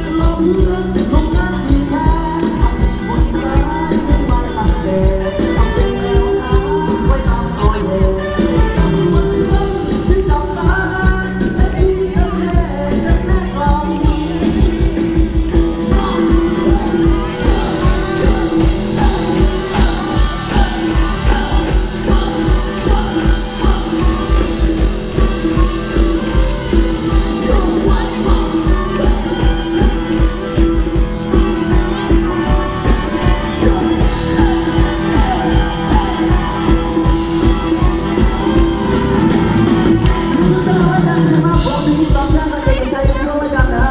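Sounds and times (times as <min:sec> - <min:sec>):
live band playing dance music: 0:00.0 - 0:43.9
person singing: 0:00.0 - 0:43.9
steady drum beat: 0:00.0 - 0:43.9.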